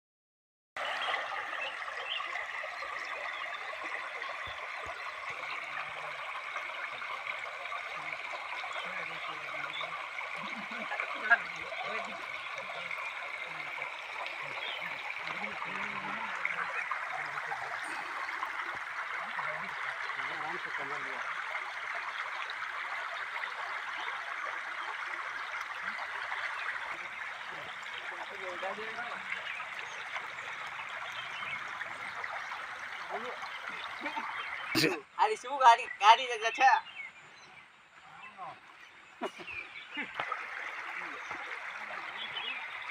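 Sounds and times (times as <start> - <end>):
flowing water rushing: 0.8 - 42.9.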